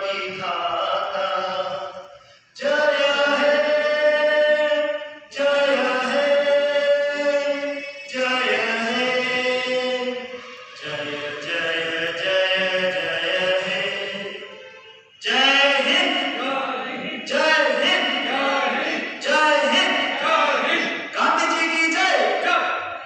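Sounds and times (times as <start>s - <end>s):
voices singing chant-like phrases: 0.0s - 23.0s.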